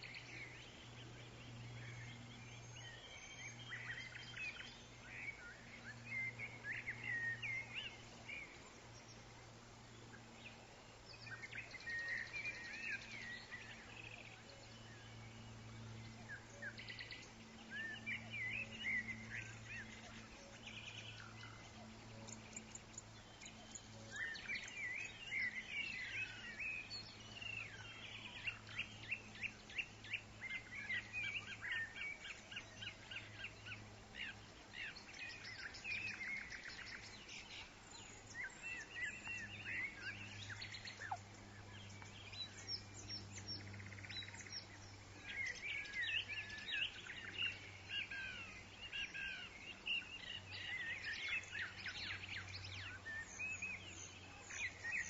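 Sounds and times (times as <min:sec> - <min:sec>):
faint low hum: 0:00.0 - 0:55.0
songbirds chirping and trilling: 0:00.0 - 0:55.0.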